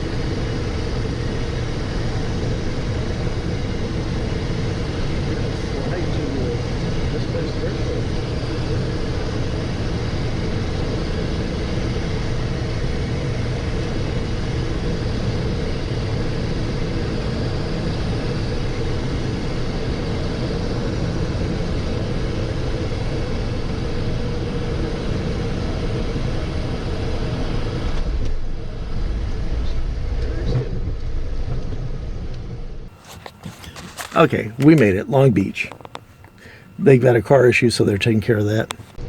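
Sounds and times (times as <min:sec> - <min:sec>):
jet cabin rumble and hiss: 0:00.0 - 0:39.0.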